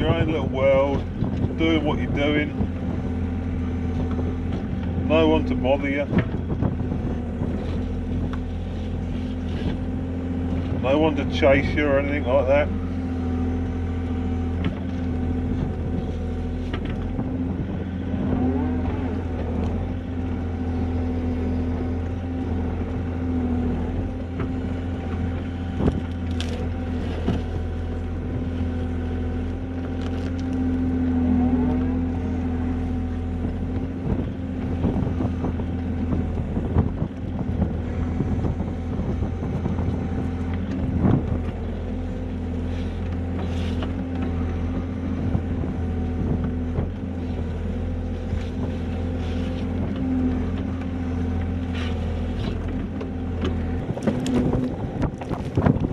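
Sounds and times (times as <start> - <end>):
excavator engine and hydraulics: 0.0 - 55.9.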